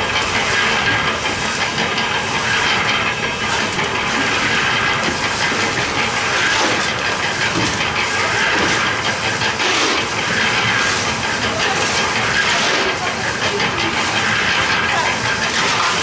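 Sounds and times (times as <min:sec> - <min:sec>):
concrete mixer drum rattling: 0:00.0 - 0:16.0
shovels scraping dry mix: 0:00.1 - 0:16.0.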